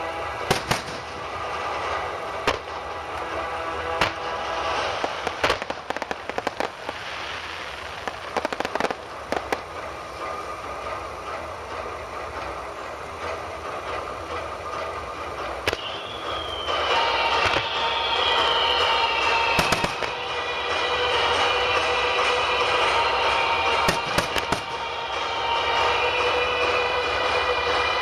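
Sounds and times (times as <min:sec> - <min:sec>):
fireworks crackle and hiss: 0:00.0 - 0:28.0
fireworks bangs and pops: 0:00.2 - 0:12.6, 0:13.2 - 0:27.9.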